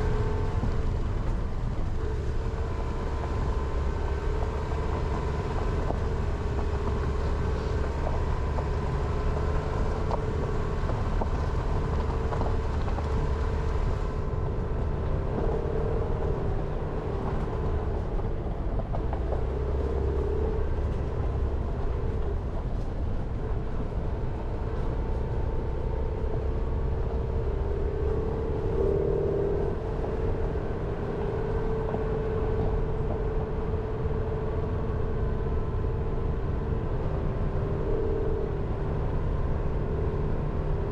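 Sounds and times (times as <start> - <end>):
car engine and tyre noise: 0.0 - 40.9.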